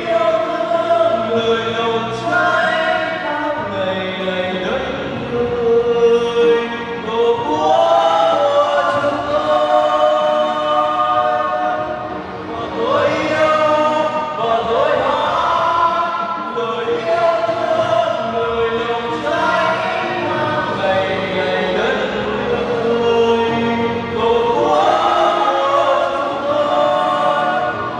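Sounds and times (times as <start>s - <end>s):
men singing in harmony: 0.0s - 27.9s.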